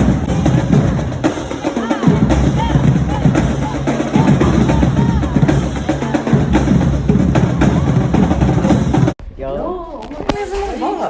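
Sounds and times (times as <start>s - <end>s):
snare drum rolls: 0.0s - 9.2s
bass drums: 0.0s - 9.4s.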